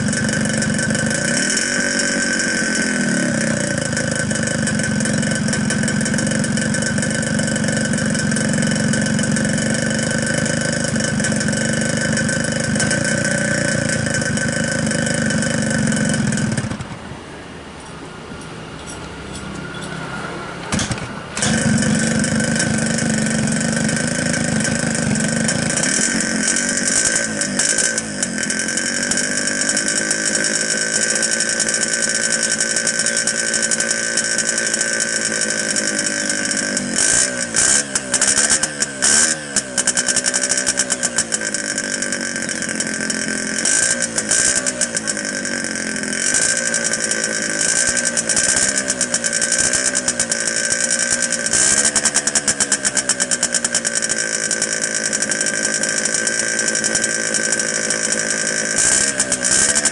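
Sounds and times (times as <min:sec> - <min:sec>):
two-stroke motorcycle engine idling: 0:00.0 - 0:17.2, 0:20.7 - 0:59.9.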